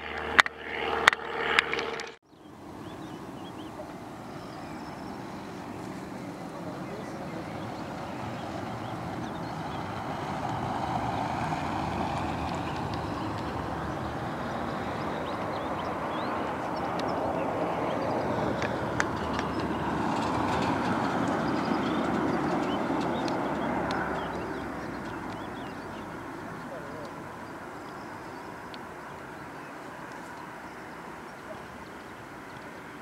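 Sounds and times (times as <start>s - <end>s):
jet engine rumble and whine: 0.0s - 33.0s.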